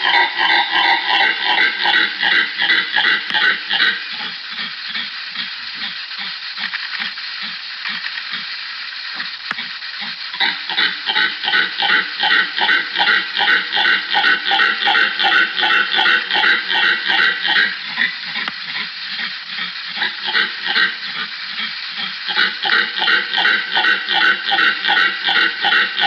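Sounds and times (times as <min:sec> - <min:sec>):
barking animal calls: 0:00.0 - 0:05.6, 0:10.4 - 0:26.0
hissing: 0:00.0 - 0:26.0.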